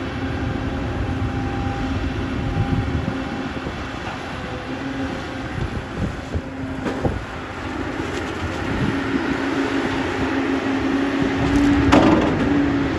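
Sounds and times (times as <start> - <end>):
excavator diesel engine under load: 0.0 - 12.9.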